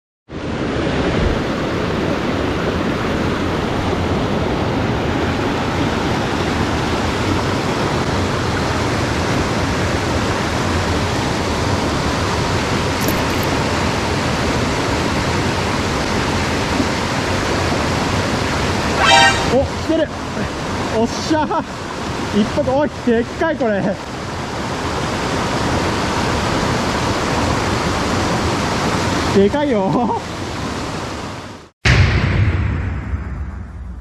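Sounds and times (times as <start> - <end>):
stream rushing over rocks: 0.3 - 31.7.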